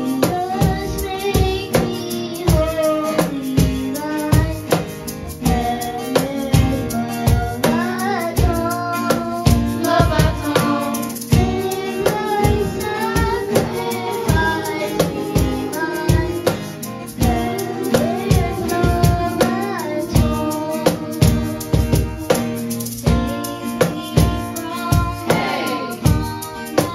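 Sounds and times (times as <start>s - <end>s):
backing music with drum beat: 0.0s - 26.9s
child singing into microphone: 0.0s - 26.9s.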